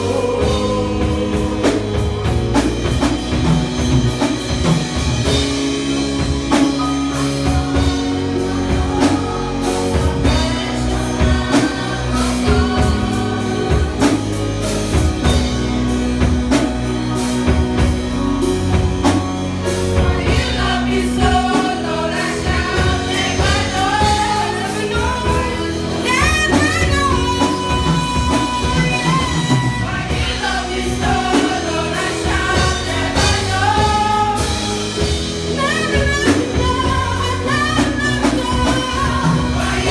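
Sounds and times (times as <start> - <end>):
live gospel band music: 0.0 - 39.9.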